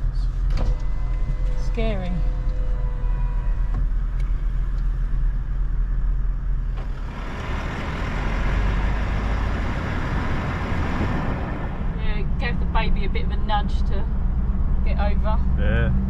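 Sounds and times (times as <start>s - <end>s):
engine rumbling low: 0.0s - 16.0s
tyre and road noise: 0.0s - 16.0s.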